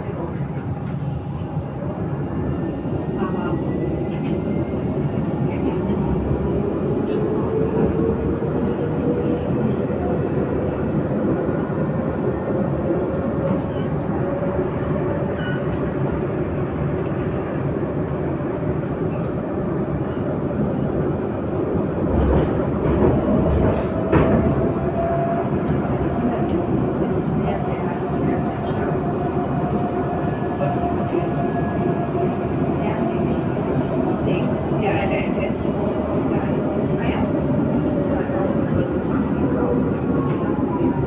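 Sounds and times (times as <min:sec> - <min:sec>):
train rumble and rail noise: 0:00.0 - 0:41.0.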